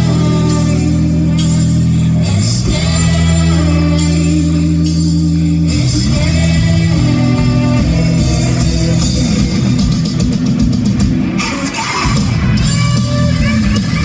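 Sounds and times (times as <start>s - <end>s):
person singing: 0.0s - 10.2s, 11.4s - 14.0s
bass guitar: 0.0s - 14.0s
drum kit: 0.0s - 14.0s
electric guitar: 0.0s - 14.0s.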